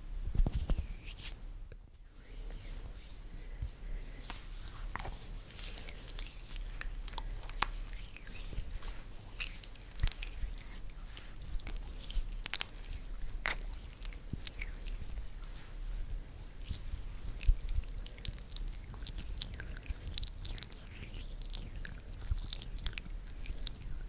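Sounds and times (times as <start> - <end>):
skin rubbing close to microphone: 0.4 - 1.4, 2.1 - 24.0.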